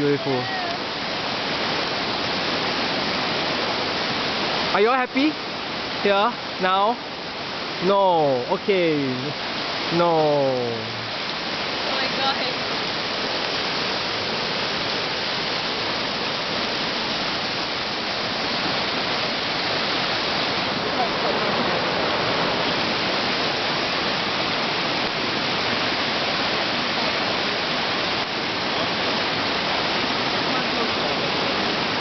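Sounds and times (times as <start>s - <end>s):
fast-flowing river rushing: 0.0s - 32.0s.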